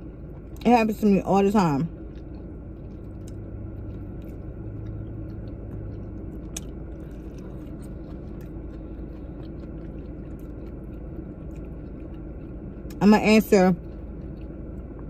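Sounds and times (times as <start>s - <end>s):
steady low hum: 0.0s - 15.0s
person chewing food: 1.9s - 13.0s, 13.8s - 15.0s.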